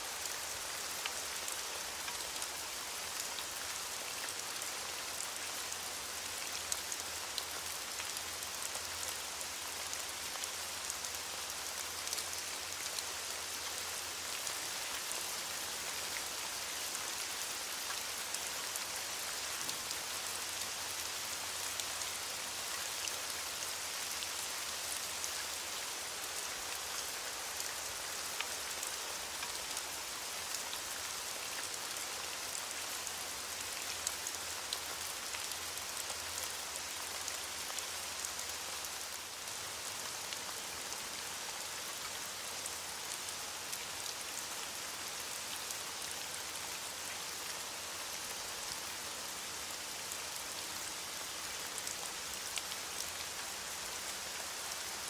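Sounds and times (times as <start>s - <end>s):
rain drops ticking: 0.1s - 47.7s, 48.3s - 55.0s.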